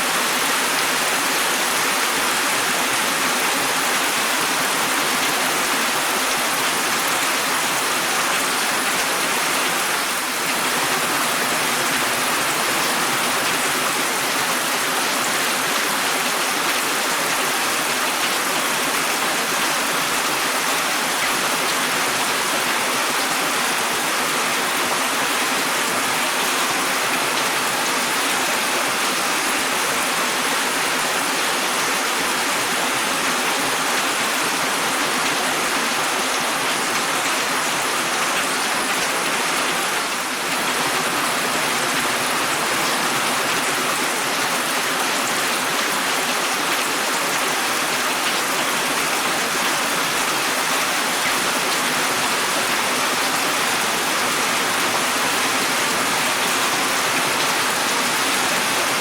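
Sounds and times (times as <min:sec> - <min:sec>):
dense rain falling: 0:00.0 - 0:59.0.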